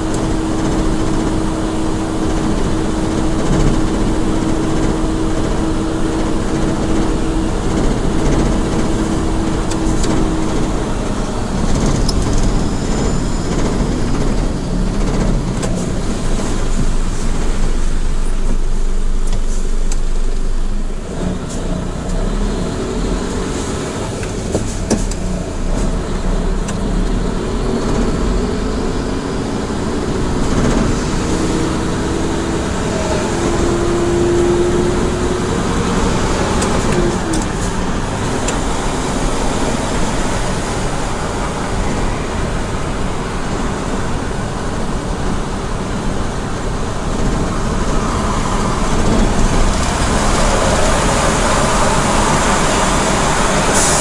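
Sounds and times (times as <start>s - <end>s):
truck diesel engine: 0.0s - 54.0s.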